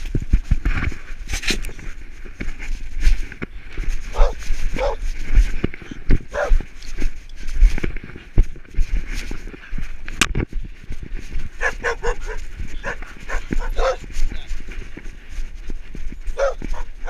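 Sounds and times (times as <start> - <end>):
fur rubbing against camera: 0.0 - 10.1, 11.2 - 17.0.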